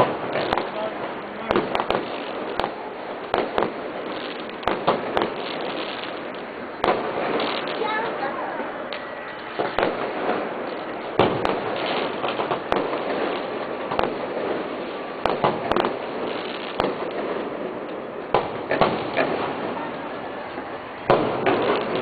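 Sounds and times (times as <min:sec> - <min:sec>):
fireworks bangs: 0:00.0 - 0:22.0
steady noisy background: 0:00.0 - 0:22.0.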